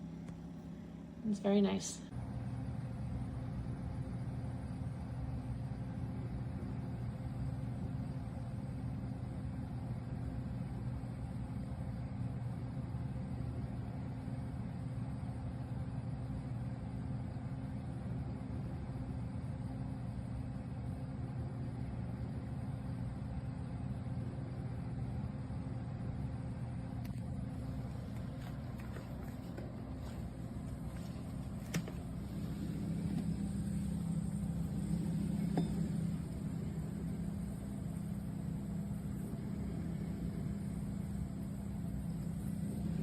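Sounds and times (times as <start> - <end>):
compressor fridge humming: 0.0 - 43.0.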